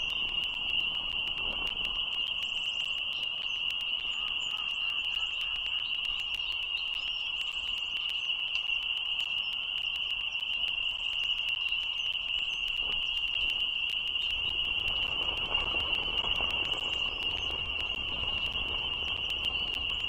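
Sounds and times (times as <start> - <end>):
faint clicks: 0.0 - 20.0
frogs calling: 0.0 - 20.0.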